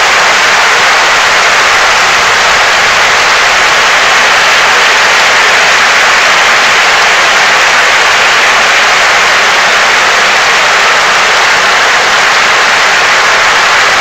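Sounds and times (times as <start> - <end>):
stadium crowd applauding: 0.0 - 14.0.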